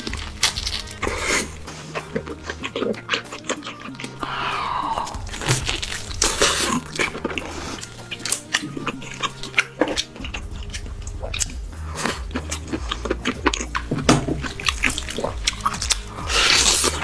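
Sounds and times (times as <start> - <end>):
person chewing steak: 0.0 - 17.0.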